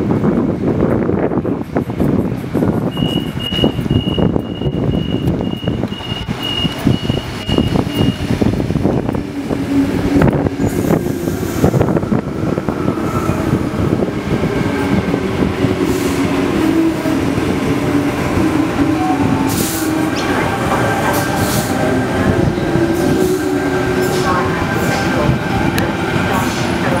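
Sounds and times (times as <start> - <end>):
train wheels rumbling on rails: 0.0 - 27.0
electric train traction whine: 2.8 - 27.0.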